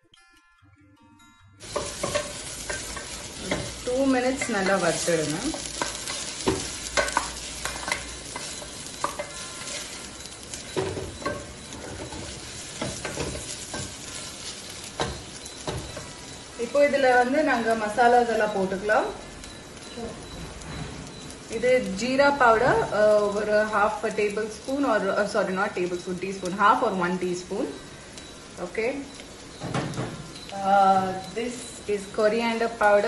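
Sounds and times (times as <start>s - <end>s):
onions sizzling in a pot: 1.6s - 33.0s.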